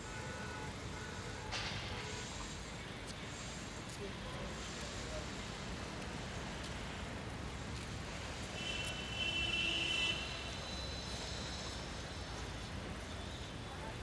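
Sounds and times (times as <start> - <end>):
distant road traffic hum: 0.0 - 14.0.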